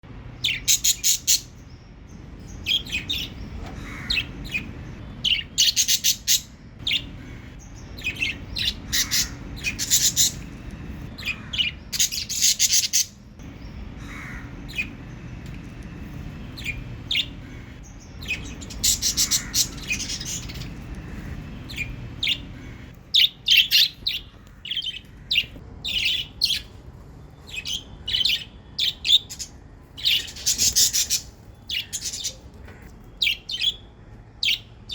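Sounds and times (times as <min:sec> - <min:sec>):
low steady background hum: 0:00.0 - 0:34.9
budgerigars chirping and warbling: 0:00.4 - 0:26.8, 0:27.4 - 0:34.9.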